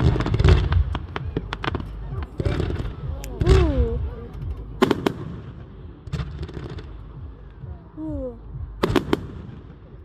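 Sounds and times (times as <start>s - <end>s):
fireworks bangs: 0.0s - 8.0s, 8.8s - 10.0s
crowd noise: 0.0s - 10.0s.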